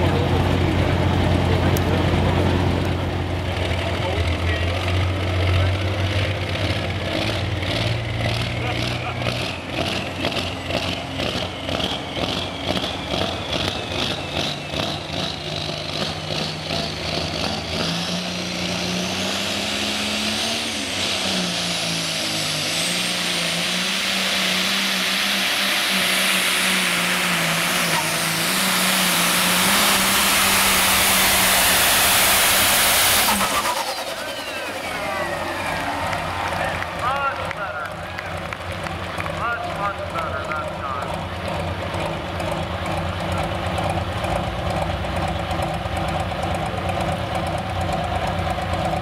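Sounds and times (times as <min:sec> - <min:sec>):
tractor engine revving: 0:00.0 - 0:49.0.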